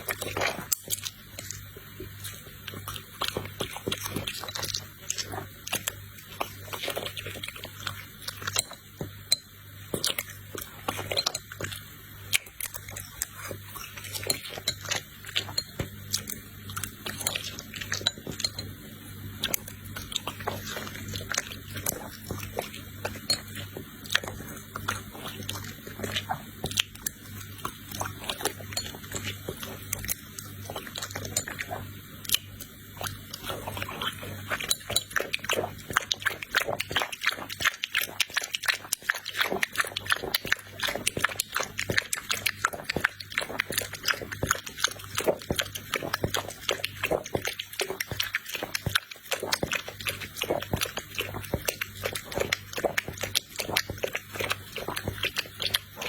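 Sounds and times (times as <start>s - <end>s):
puppies chewing and smacking: 0.0s - 56.0s
steady low hum: 0.0s - 56.0s.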